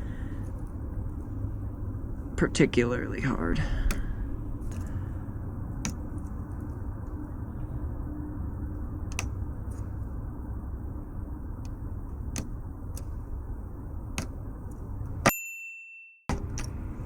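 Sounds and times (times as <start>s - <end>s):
steady low rumble: 0.0s - 15.3s, 16.3s - 17.0s.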